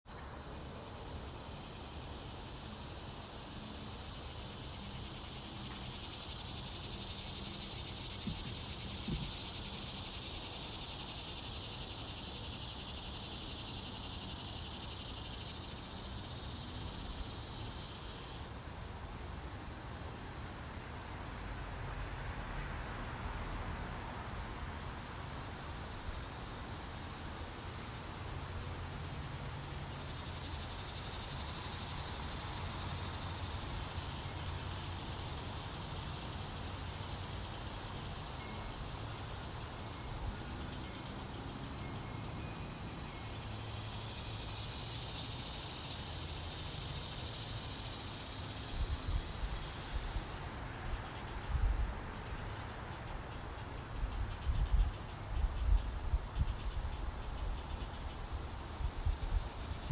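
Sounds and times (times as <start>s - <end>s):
insects chirring: 0.1s - 59.9s.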